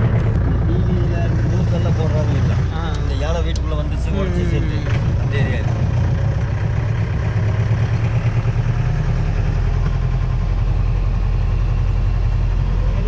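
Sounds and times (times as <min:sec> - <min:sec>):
road noise: 0:00.0 - 0:13.0
vehicle engine droning: 0:00.0 - 0:13.0.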